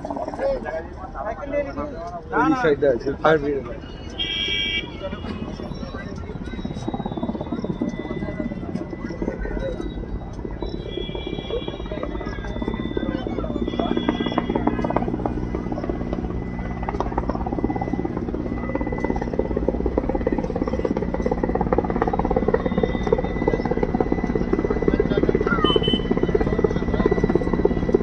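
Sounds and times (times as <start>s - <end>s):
low engine drone: 0.0s - 28.0s
helicopter rotor thudding: 5.4s - 28.0s.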